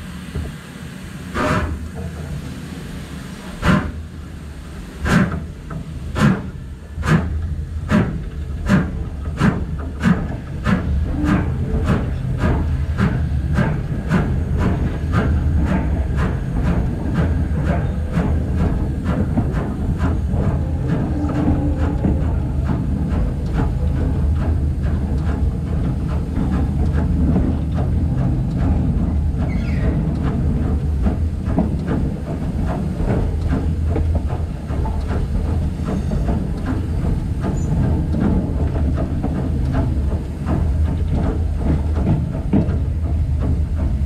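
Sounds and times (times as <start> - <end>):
rumble of moving train: 0.0 - 44.0
steam locomotive exhaust beats: 0.0 - 44.0.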